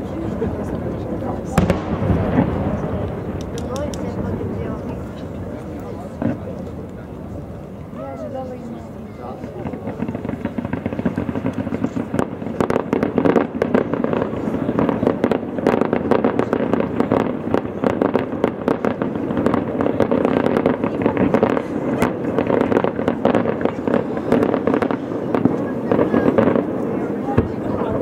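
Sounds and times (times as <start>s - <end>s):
fireworks bangs: 0.0s - 28.0s
fireworks crackling and popping: 0.0s - 28.0s.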